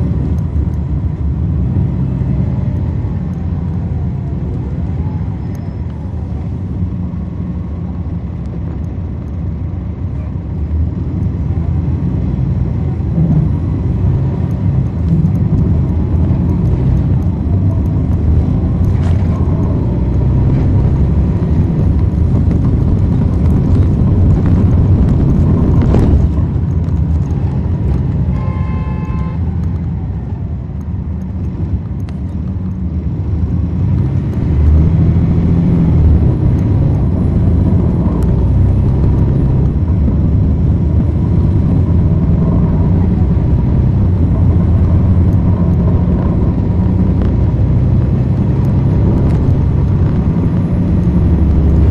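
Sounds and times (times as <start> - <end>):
bus diesel engine running: 0.0 - 51.9
road noise: 0.0 - 51.9.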